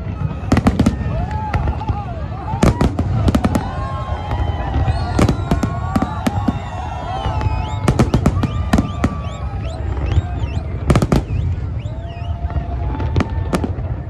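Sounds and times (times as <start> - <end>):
fireworks whistling: 0.0 - 13.7
fireworks bangs: 0.0 - 14.0.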